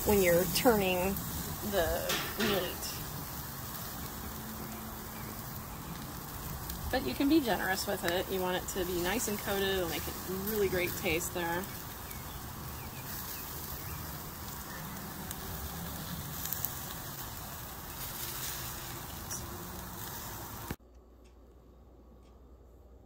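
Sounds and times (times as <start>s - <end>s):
meat sizzling on a grill: 0.0s - 20.8s
coals crackling: 0.0s - 21.4s.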